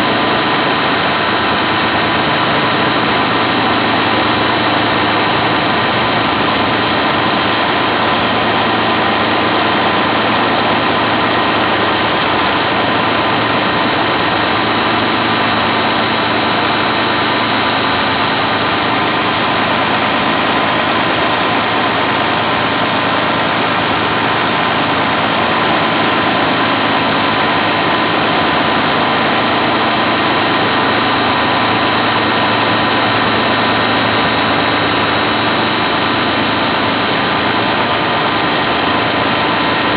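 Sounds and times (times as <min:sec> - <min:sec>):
helicopter engine running: 0:00.0 - 0:39.9
high-pitched whine: 0:00.0 - 0:39.9.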